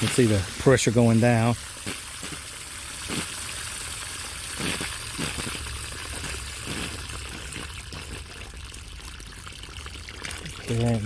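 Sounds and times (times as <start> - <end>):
water trickling from plumbing: 0.0 - 11.0.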